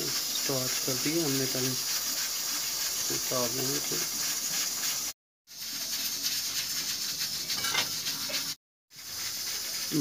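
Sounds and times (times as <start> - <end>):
pressure cooker steam hissing: 0.0 - 10.0.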